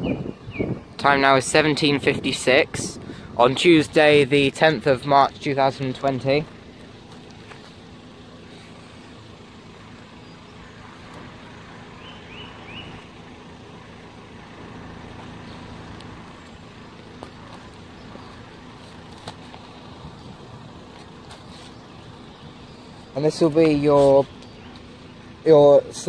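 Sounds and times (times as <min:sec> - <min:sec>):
vehicle engines idling: 0:00.0 - 0:26.0.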